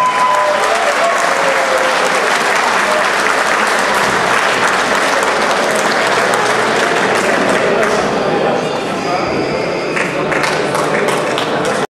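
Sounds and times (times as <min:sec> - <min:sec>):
audience applauding: 0:00.0 - 0:08.6, 0:09.9 - 0:11.9
voices: 0:01.2 - 0:11.9.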